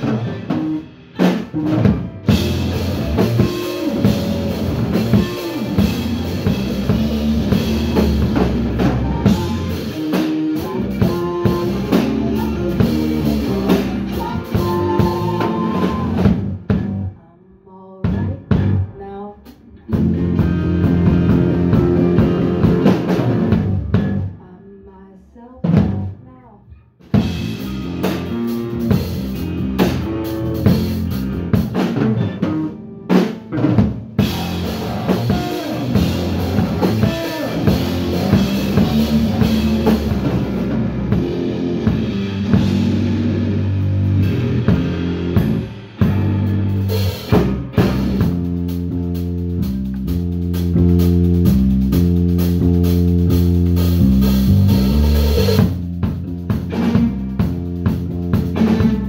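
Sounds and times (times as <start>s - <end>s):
drum hits: 0.0s - 17.0s, 27.0s - 59.0s
live rock band playing: 0.0s - 17.2s, 18.1s - 24.4s, 27.0s - 59.0s.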